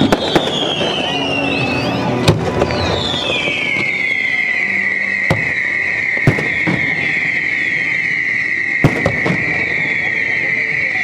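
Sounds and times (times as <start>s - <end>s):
firework bangs: 0.0s - 11.0s
whistling firework: 0.0s - 11.0s.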